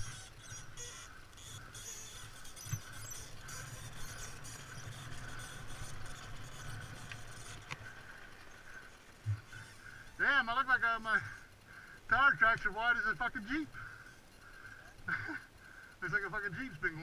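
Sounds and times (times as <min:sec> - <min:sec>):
engine humming at low throttle: 0:00.0 - 0:17.0.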